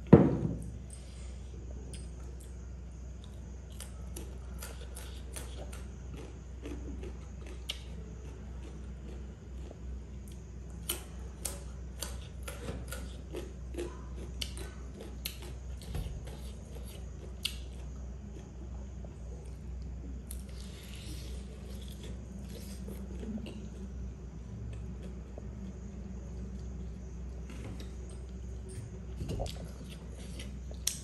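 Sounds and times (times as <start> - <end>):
steady low hum: 0.0 - 31.0
crunchy carrot chewing: 1.6 - 31.0.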